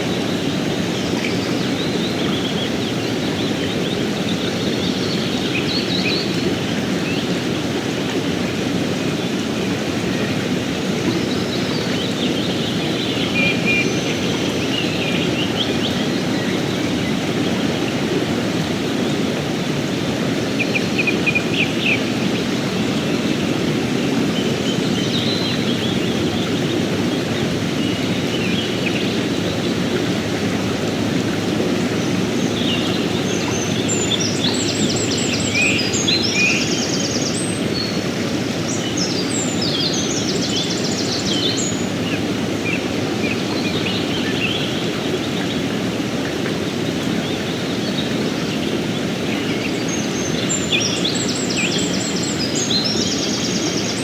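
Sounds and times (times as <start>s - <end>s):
birds chirping: 10.0s - 54.0s.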